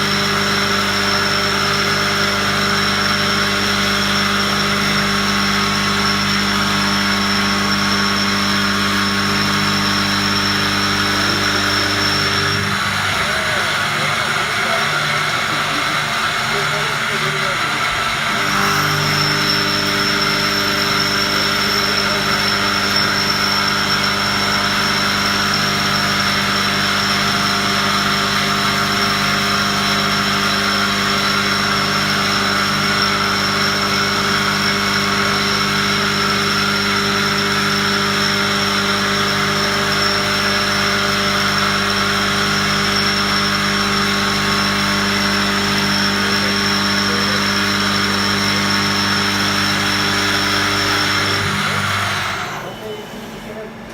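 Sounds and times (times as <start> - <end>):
factory machinery hum: 0.0 - 53.9
high machinery whine: 0.0 - 53.9.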